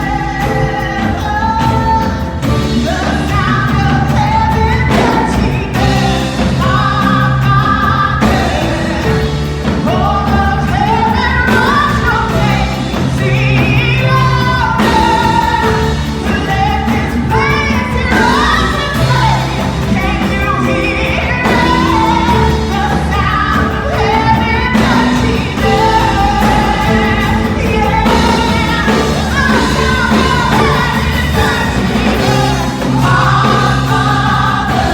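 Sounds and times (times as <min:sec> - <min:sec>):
instrumental accompaniment with bass: 0:00.0 - 0:34.9
person singing gospel song: 0:00.0 - 0:34.9.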